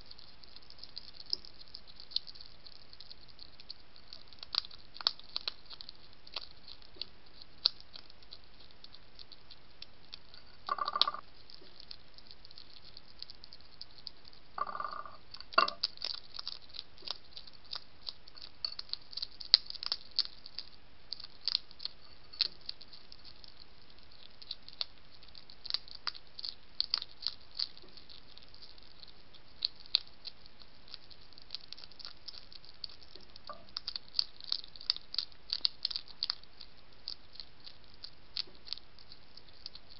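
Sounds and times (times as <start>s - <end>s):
hedgehog chewing crunchy food: 0.0s - 39.9s.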